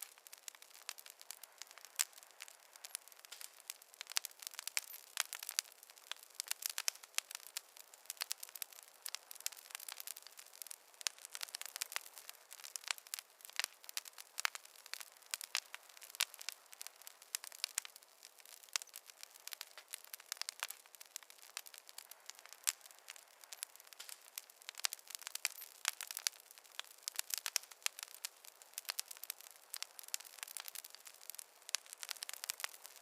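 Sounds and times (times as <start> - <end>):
faint hiss: 0.0 - 33.0
wood fire crackling: 0.0 - 33.0.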